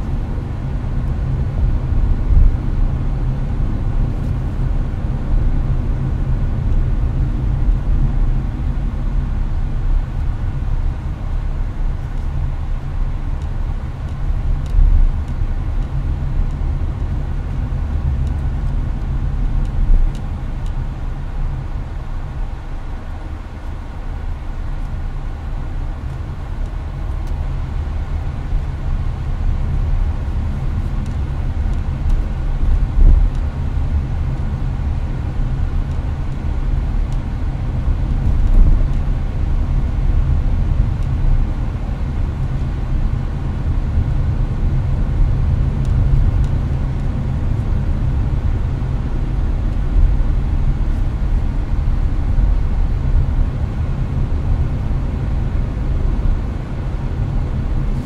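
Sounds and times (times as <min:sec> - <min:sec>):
air conditioner fan running: 0:00.0 - 0:58.0
road and tyre rumble: 0:00.0 - 0:58.0.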